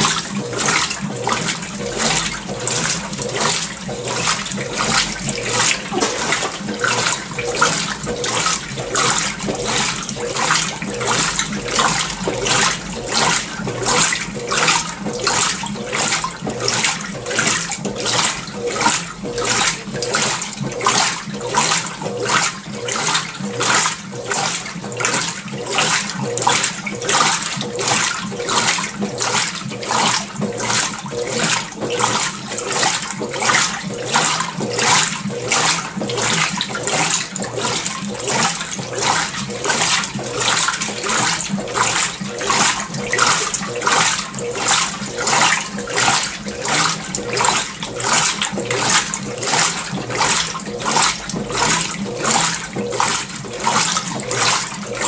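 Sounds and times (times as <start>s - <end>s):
washing machine water sloshing: 0.0s - 55.0s.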